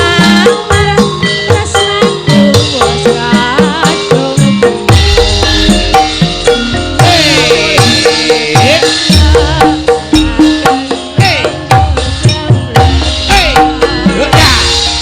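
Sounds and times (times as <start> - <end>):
ringing metallophone tones: 0.0 - 15.0.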